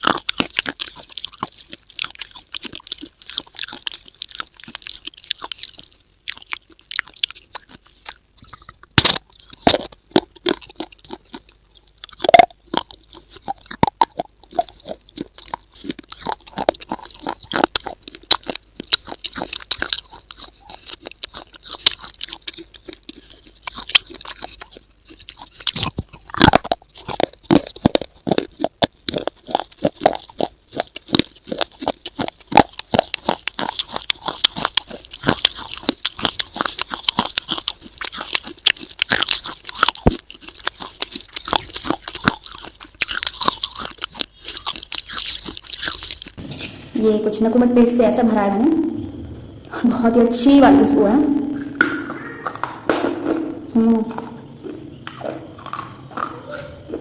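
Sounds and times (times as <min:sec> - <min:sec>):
crunching and crackling clicks: 0:00.0 - 0:46.4, 0:51.7 - 0:57.0.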